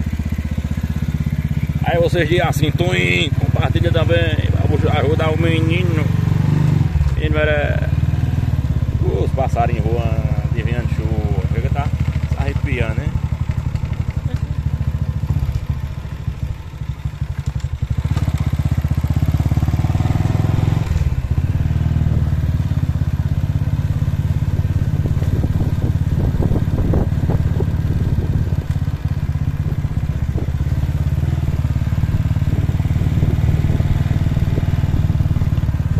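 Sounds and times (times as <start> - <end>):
small motorcycle engine running: 0.0 - 35.9.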